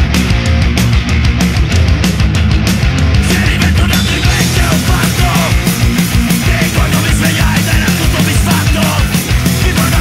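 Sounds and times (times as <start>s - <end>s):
punk rock song: 0.0s - 10.0s.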